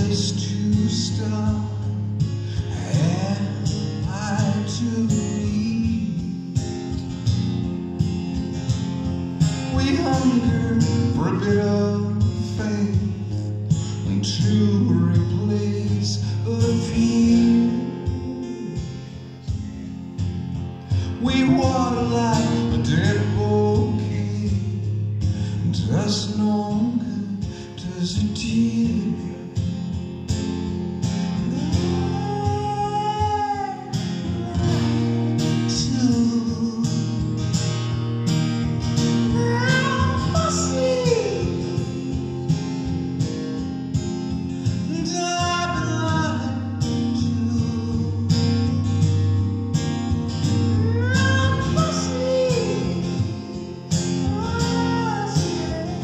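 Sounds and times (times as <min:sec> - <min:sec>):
man singing: 0:00.0 - 0:07.0, 0:09.6 - 0:19.6, 0:20.9 - 0:29.9, 0:31.2 - 0:37.8, 0:39.2 - 0:42.5, 0:44.6 - 0:49.4, 0:50.5 - 0:56.0
acoustic guitar: 0:00.0 - 0:56.0.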